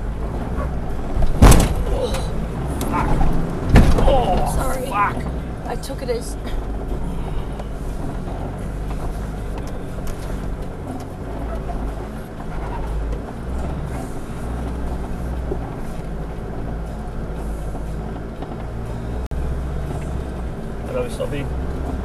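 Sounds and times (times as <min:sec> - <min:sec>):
engine running at low revs: 0:00.0 - 0:22.0.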